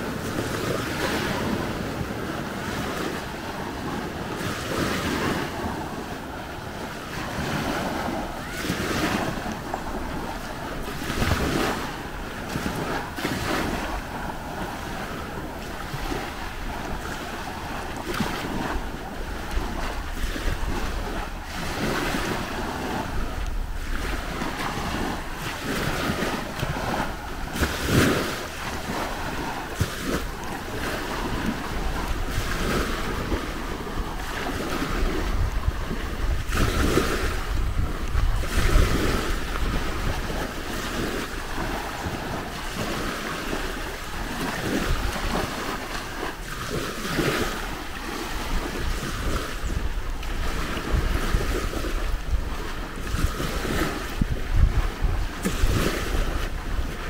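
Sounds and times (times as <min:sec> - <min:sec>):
sea waves washing onto beach: 0:00.0 - 0:57.0
wind buffeting microphone: 0:00.0 - 0:57.0.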